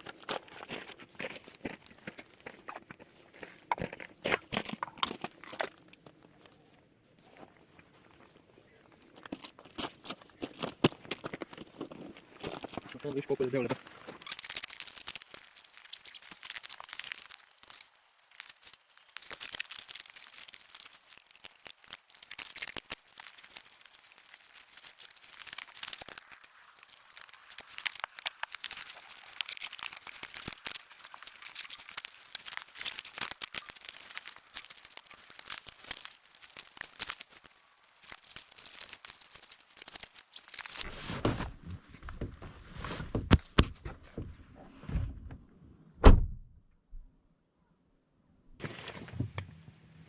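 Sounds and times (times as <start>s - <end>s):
crinkling crackling rustle: 0.0s - 43.5s, 48.6s - 50.0s.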